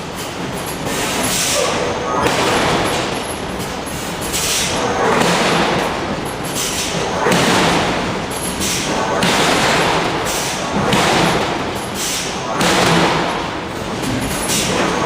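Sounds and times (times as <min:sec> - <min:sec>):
forge shop noise: 0:00.0 - 0:15.0.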